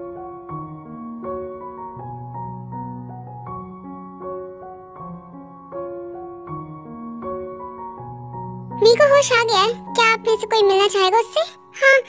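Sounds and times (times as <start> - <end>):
slow sad piano music: 0.0 - 12.0.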